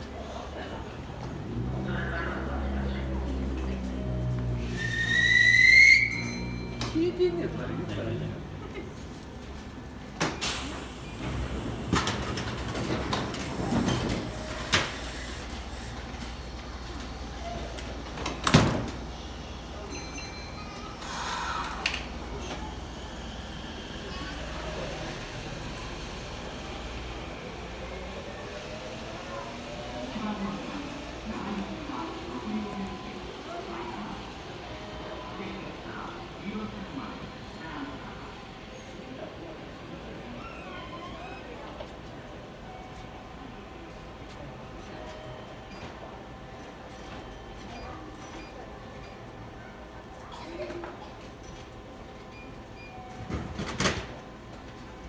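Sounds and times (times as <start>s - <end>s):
faint indistinct voices: 0.0s - 55.0s
train low hum: 0.0s - 55.0s
train doors closing: 9.2s - 55.0s.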